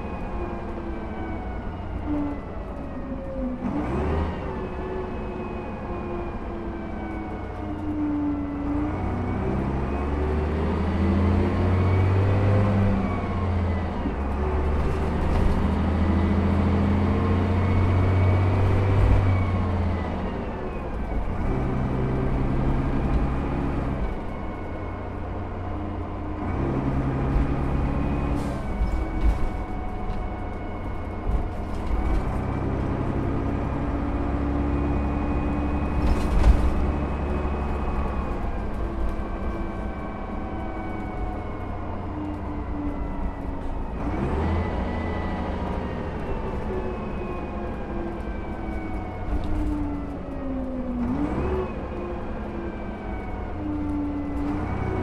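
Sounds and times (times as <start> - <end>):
bus diesel engine driving: 0.0 - 55.0.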